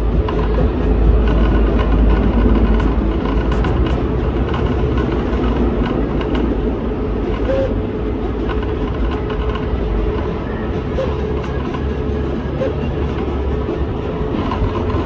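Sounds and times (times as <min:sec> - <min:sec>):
cutting plotter whirring: 0:00.0 - 0:15.0
low rumble: 0:00.0 - 0:15.0.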